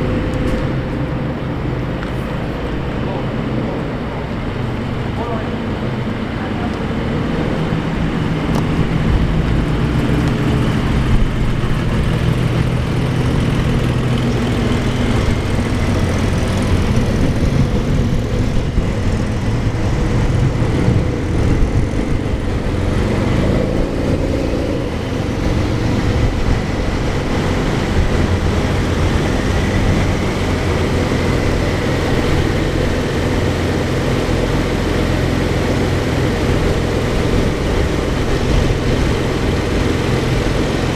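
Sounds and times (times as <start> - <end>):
sports car engine and exhaust: 0.0 - 40.9.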